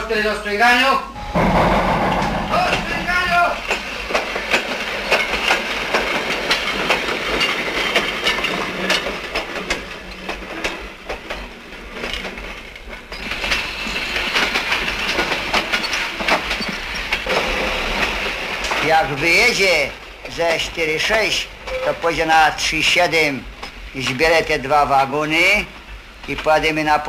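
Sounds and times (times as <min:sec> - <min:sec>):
freight wagons clattering on rails: 0:02.5 - 0:27.0.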